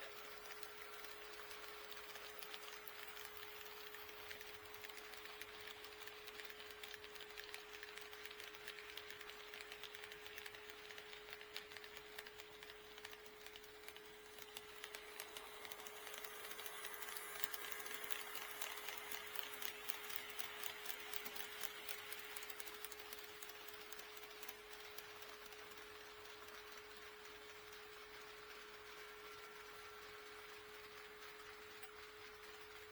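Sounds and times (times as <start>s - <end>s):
model train wheels clicking: 0.0s - 32.9s.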